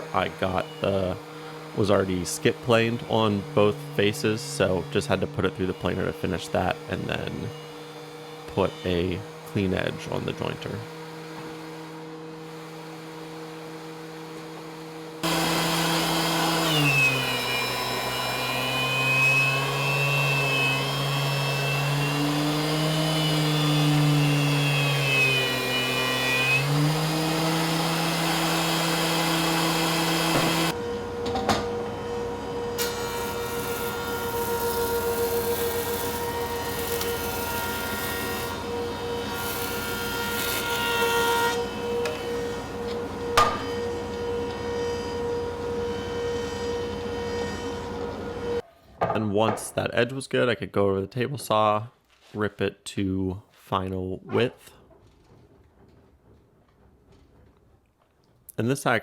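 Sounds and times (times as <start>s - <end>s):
woodworking machine running: 0.0s - 48.6s.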